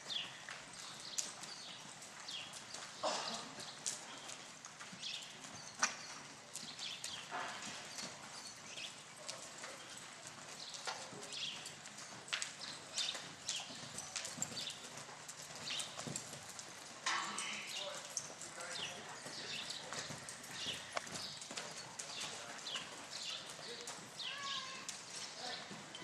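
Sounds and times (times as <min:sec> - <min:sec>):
horse hoofbeats on dirt: 0:00.0 - 0:26.0.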